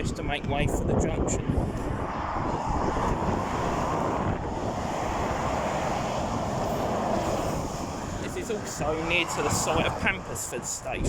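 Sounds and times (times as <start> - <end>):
road traffic tyres on tarmac: 0.0 - 11.0
wind buffeting microphone: 0.0 - 11.0.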